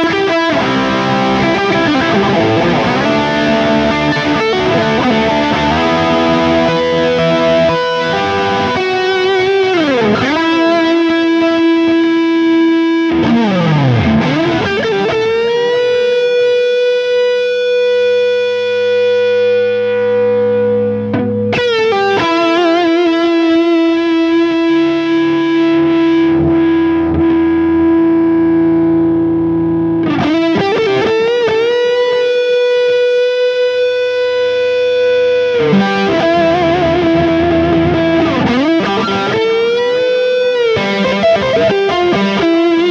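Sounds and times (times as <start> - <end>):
distorted electric guitar notes: 0.0 - 42.9.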